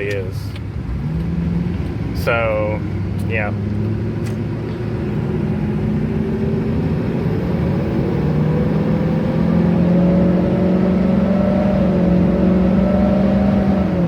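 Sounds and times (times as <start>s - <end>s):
diesel truck engine: 0.0s - 14.0s.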